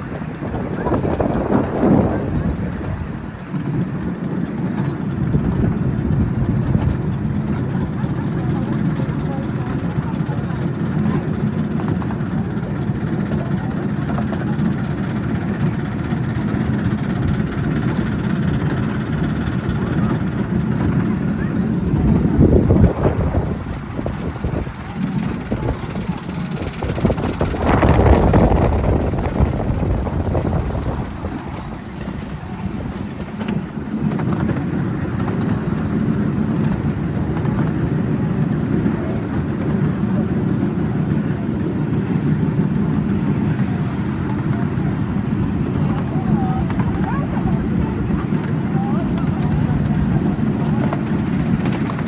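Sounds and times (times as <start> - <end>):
miniature train rumbling: 0.0 - 52.0.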